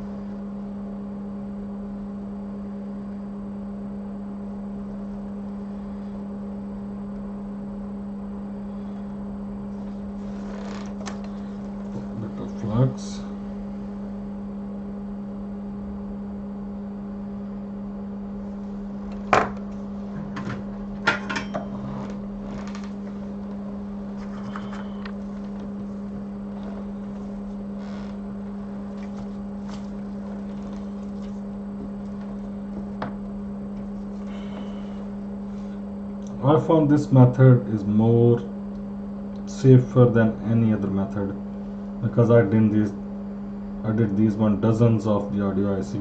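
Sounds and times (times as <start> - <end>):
low electrical hum: 0.0 - 46.0.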